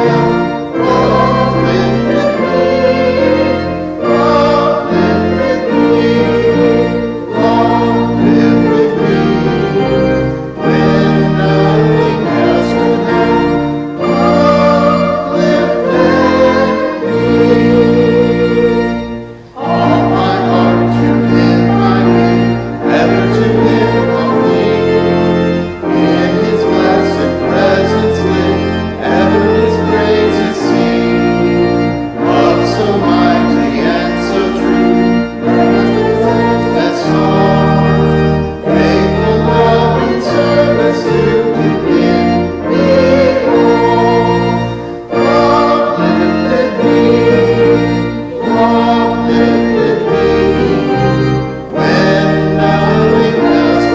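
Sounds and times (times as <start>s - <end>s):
organ playing chords: 0.0s - 53.9s
voices singing: 0.0s - 53.9s.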